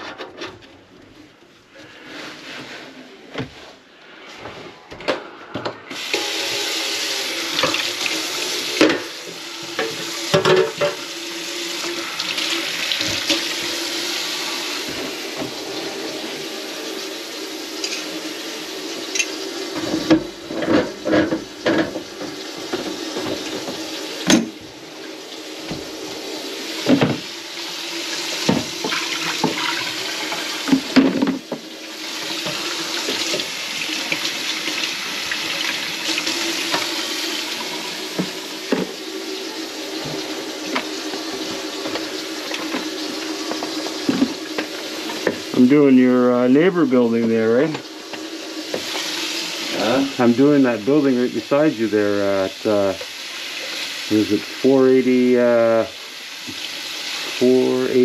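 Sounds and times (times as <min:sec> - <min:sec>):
faucet running into sink: 0:05.9 - 0:58.0.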